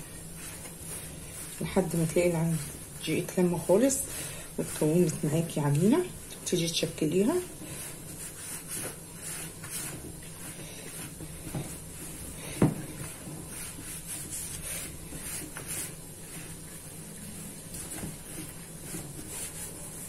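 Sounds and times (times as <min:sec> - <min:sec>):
hands kneading crumbly dough: 0:00.0 - 0:20.0
low steady hum: 0:00.0 - 0:20.0.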